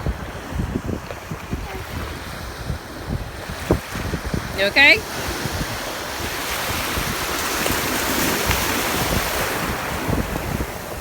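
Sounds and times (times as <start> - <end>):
ocean surf washing ashore: 0.0 - 11.0
wind buffeting microphone: 0.0 - 11.0.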